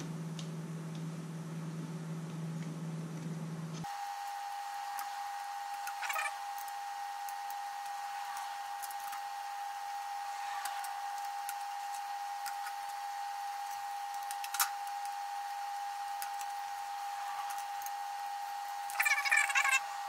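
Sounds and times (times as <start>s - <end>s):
high-pitched hum: 0.0s - 20.0s.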